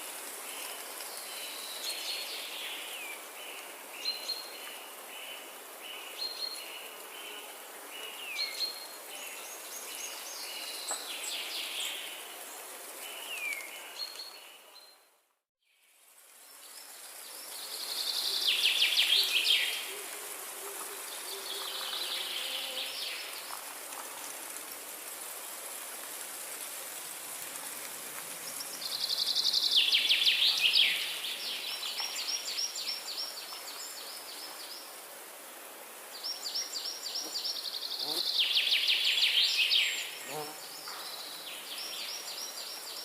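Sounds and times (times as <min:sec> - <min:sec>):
steady high-pitched hiss: 0:00.0 - 0:14.8, 0:15.7 - 0:43.0.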